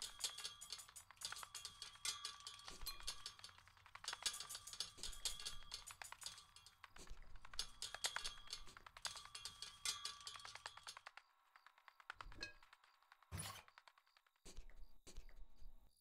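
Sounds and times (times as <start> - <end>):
flour sifter clicking and rattling: 0.0 - 14.5.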